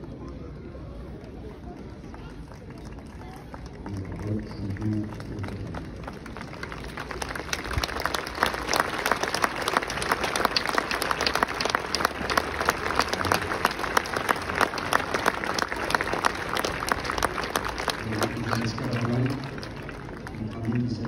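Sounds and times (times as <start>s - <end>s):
crowd applauding: 2.1s - 21.0s.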